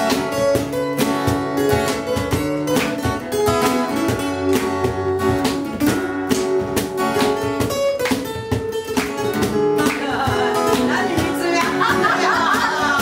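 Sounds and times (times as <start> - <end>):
acoustic guitars strumming: 0.0 - 13.0
cajon beat: 0.0 - 13.0.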